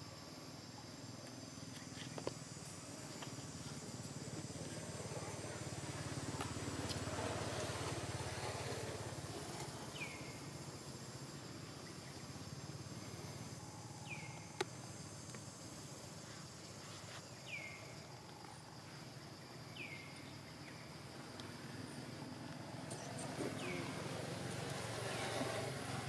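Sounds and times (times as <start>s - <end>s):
high insect hum: 0.0s - 26.0s.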